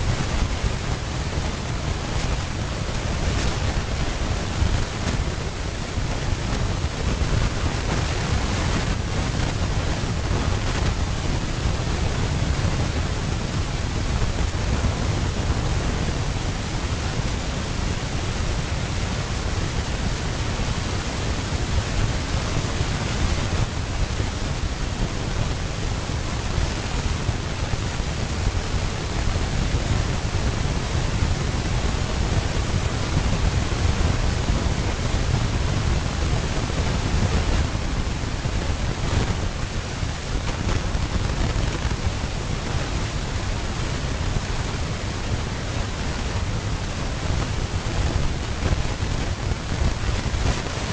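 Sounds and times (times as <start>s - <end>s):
wind blowing over microphone: 0.0s - 50.9s.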